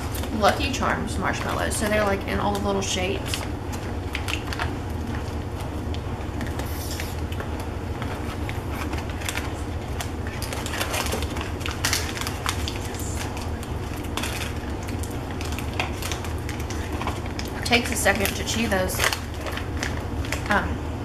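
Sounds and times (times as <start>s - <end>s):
plastic bag crinkling: 0.1s - 20.7s
crunchy marshmallows being chewed: 1.4s - 20.7s.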